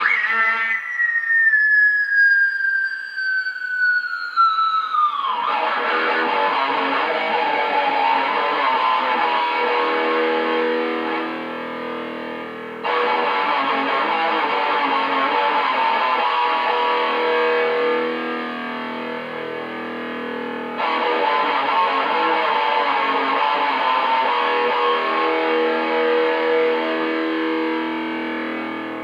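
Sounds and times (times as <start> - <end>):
electric guitar riffs and chords: 0.0 - 1.5, 5.2 - 29.0.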